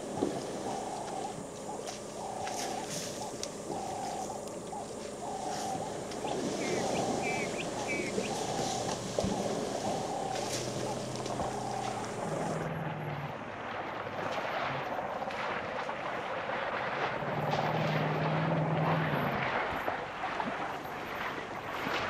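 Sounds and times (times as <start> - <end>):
elephants splashing in water: 0.0 - 22.0
low engine-like hum: 0.0 - 22.0.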